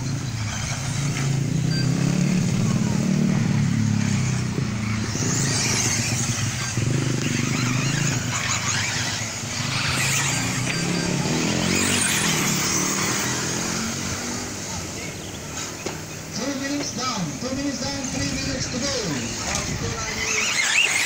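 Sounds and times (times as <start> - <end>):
rc car motors whining: 0.0 - 21.0.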